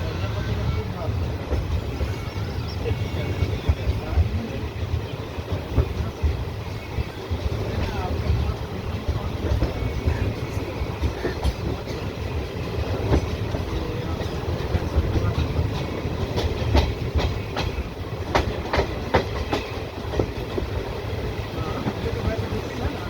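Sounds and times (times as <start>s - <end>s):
train rumbling: 0.0s - 23.0s
train wheels clacking: 0.0s - 23.0s.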